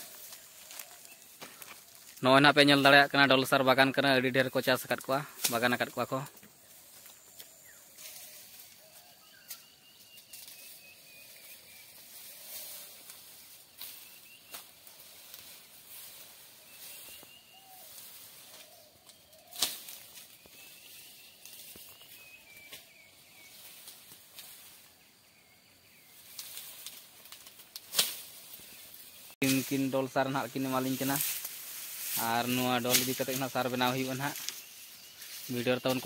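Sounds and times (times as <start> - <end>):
dry grass rustling: 0.0 - 3.8, 4.6 - 25.1, 25.9 - 36.0
crackles in grass: 0.0 - 25.2, 25.8 - 36.0.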